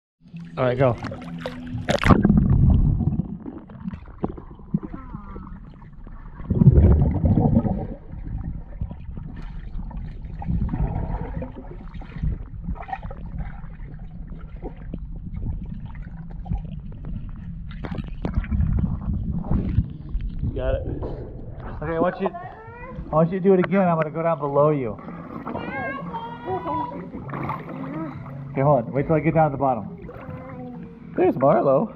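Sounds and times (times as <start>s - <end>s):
underwater low rumble: 0.2s - 31.9s
rush of water and bubbles: 0.3s - 22.0s, 24.9s - 31.9s
bubbles gurgling: 0.7s - 23.1s, 24.8s - 31.9s.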